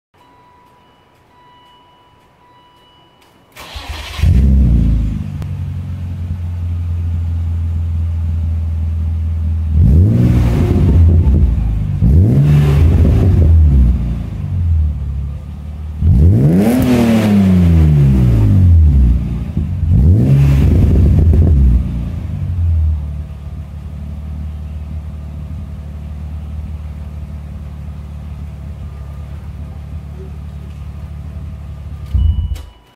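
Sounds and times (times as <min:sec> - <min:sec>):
car engine revving and idling: 0:03.7 - 0:32.5.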